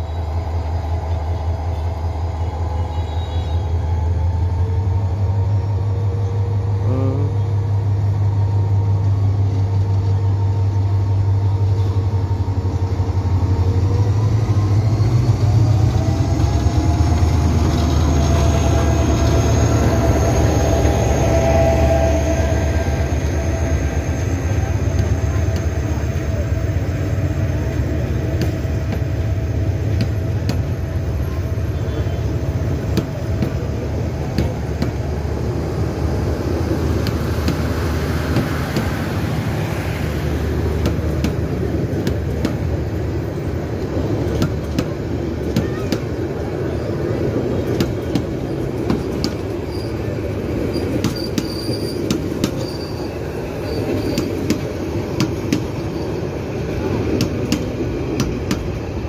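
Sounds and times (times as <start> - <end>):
diesel locomotive engine rumbling: 0.0 - 59.0
train coaches rolling on rails: 0.0 - 59.0.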